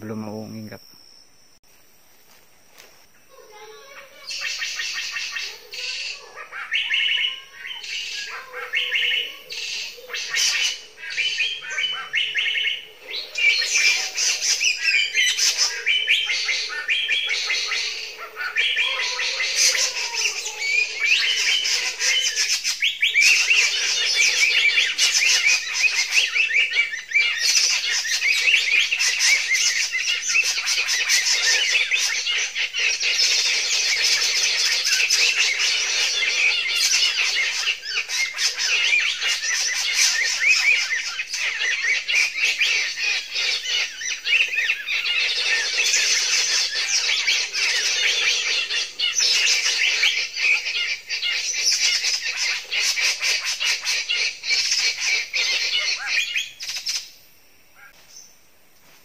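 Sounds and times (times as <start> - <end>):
small birds chirping from a speaker: 0.0 - 0.8, 3.1 - 57.2
low wavering bird call: 3.4 - 51.1.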